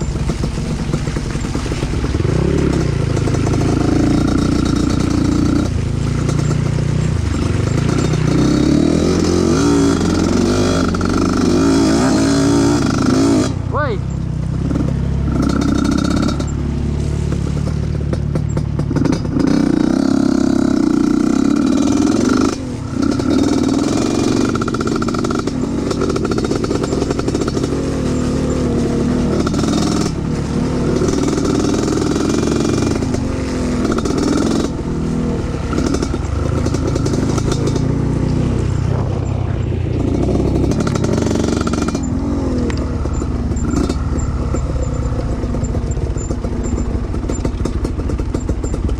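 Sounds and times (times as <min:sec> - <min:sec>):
clattering over rough ground: 0:00.0 - 0:48.9
motorcycle engine revving: 0:00.0 - 0:48.9.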